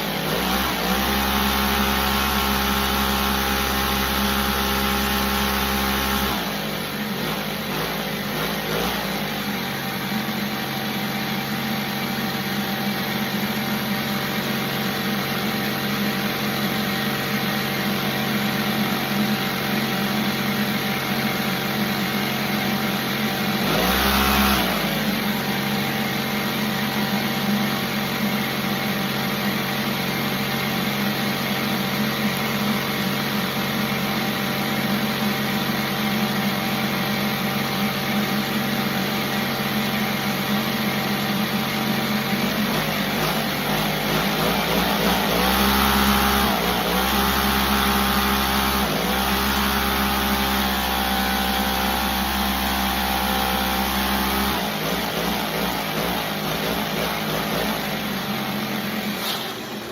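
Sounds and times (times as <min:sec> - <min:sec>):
engine revving and idling: 0:00.0 - 0:59.9.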